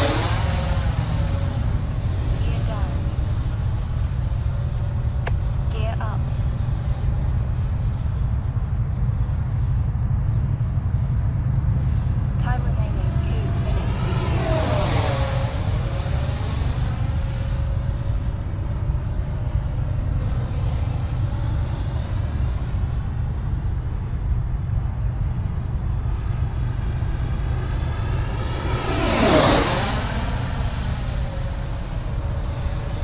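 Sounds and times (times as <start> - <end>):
rc jet fan whining: 0.0 - 33.0
steady low rumble: 0.0 - 33.0.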